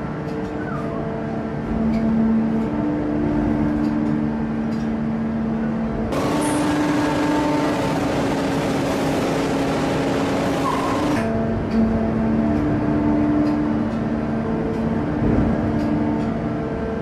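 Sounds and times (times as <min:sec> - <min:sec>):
forging press machinery hum: 0:00.0 - 0:17.0.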